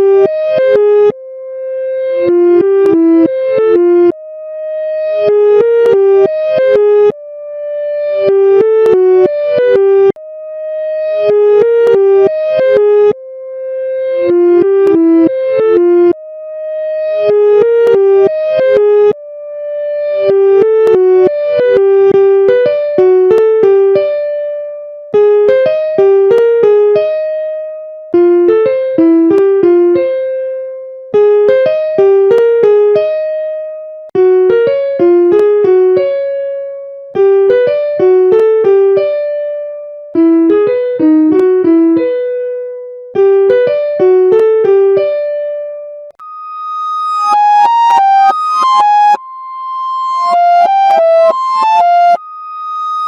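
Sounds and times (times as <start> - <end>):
electric piano melody: 0.0 - 53.0.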